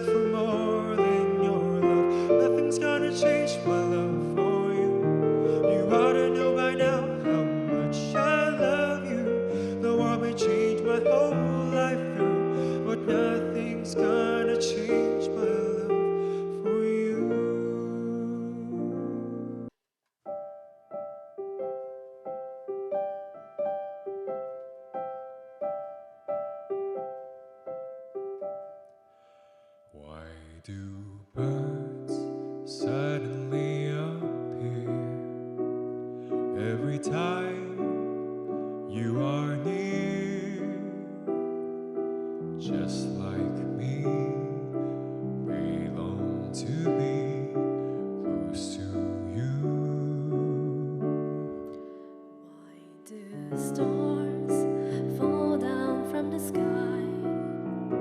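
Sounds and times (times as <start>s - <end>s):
piano-led music: 0.0s - 58.0s.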